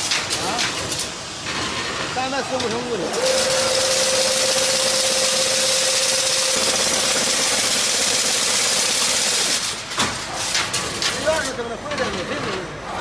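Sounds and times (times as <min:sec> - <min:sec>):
fence weaving machine running: 0:02.2 - 0:12.7.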